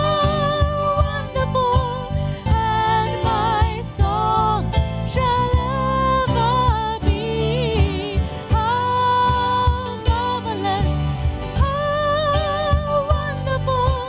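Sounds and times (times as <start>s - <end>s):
band with steady drum beat: 0.0s - 14.0s
person singing with vibrato: 0.0s - 14.0s.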